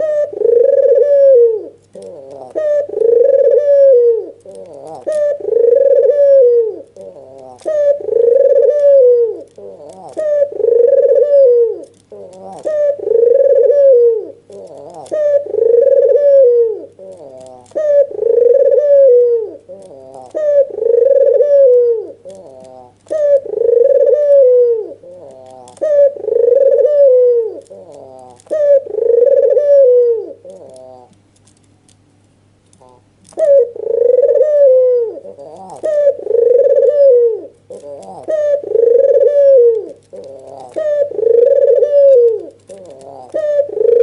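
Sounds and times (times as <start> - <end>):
dove cooing: 0.0 - 31.2, 32.8 - 44.0.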